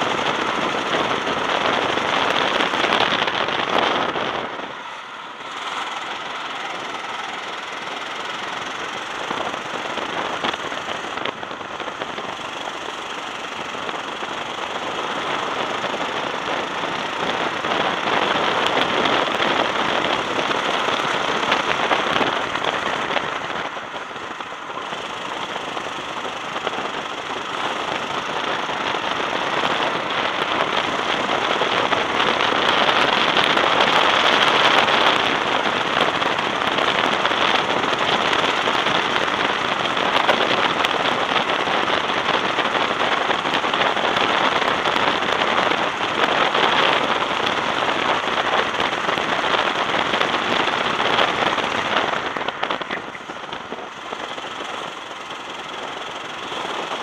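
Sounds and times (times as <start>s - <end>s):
go-kart engine running hard: 0.0s - 57.0s
wind noise on microphone: 0.0s - 57.0s.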